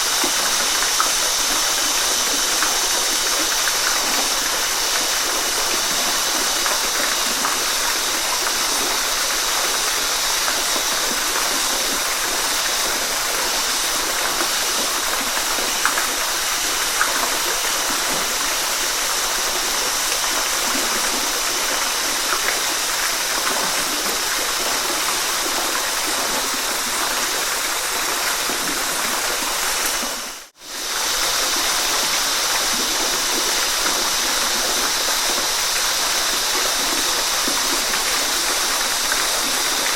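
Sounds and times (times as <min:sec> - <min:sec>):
faint water gurgle: 0:00.0 - 0:39.9
waterfall rushing: 0:00.0 - 0:39.9.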